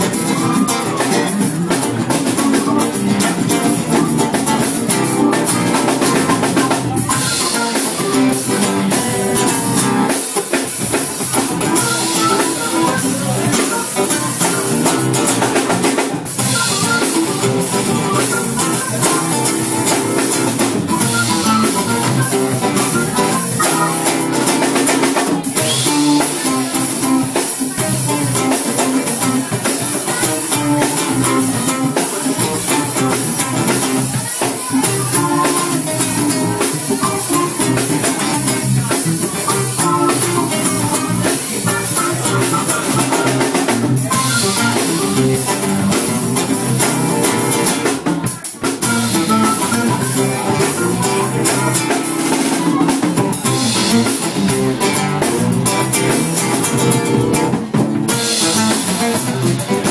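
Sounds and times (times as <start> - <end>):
live band playing: 0.0 - 59.9.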